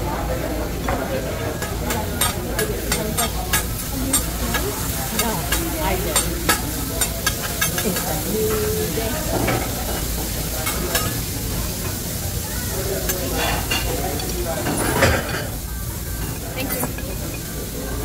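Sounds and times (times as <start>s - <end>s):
food sizzling on griddle: 0.0s - 18.0s.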